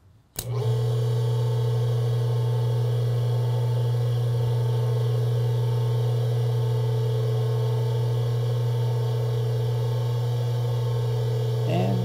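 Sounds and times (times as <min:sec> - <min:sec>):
pump motor humming: 0:00.4 - 0:12.0.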